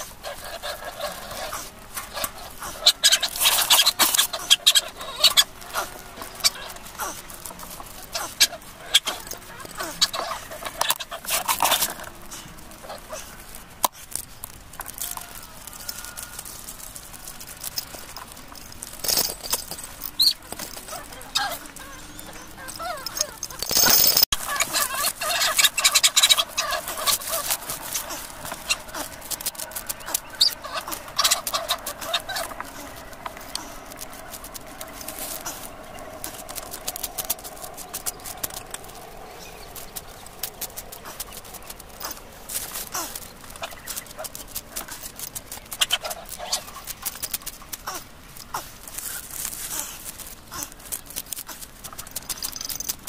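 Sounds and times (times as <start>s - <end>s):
chickens clucking: 0.0s - 52.4s.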